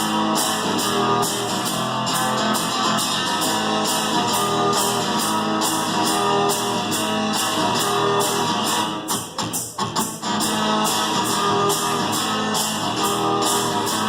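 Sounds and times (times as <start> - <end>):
cajon and cymbal percussion: 0.0 - 14.0
strummed guitar: 0.0 - 14.0.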